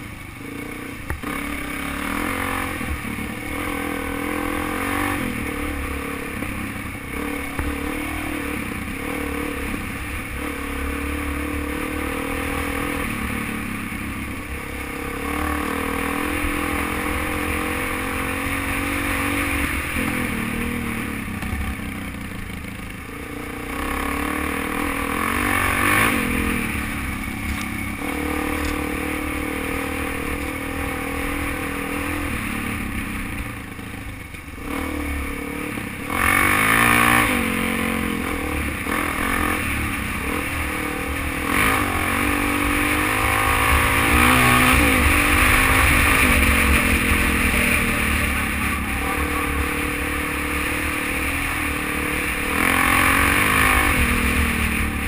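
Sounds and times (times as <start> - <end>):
motorcycle engine: 0.0 - 55.0
motorcycle rattling: 0.0 - 55.0.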